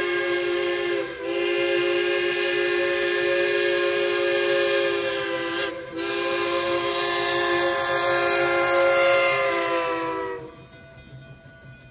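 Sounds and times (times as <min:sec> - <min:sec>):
steam whistle blasts: 0:00.0 - 0:10.6.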